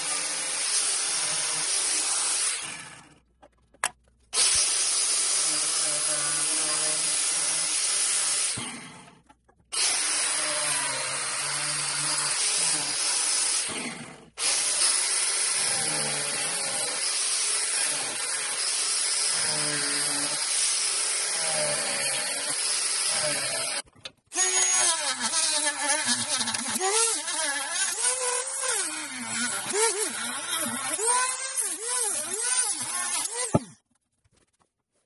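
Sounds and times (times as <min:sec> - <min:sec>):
angle grinder cutting plastic pipe: 0:00.0 - 0:33.8.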